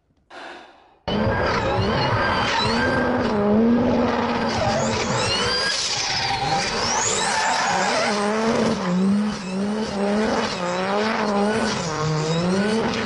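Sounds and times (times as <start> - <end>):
car engine revving: 1.1 - 5.6, 6.4 - 13.0.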